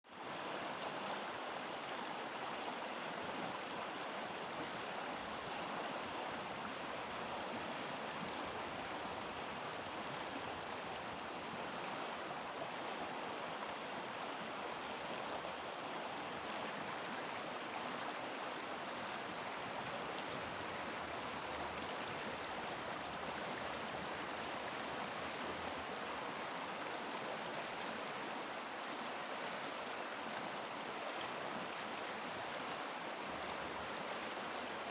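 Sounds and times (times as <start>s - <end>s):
stream rushing and babbling: 0.1s - 34.9s.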